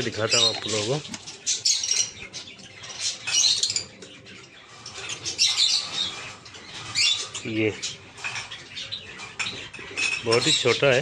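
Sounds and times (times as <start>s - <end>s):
small parrots chirping: 0.2s - 11.0s.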